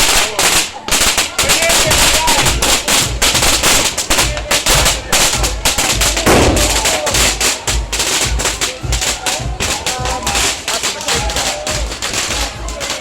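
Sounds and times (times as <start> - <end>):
bass drum beat: 0.0 - 13.0
firecrackers banging: 0.0 - 13.0.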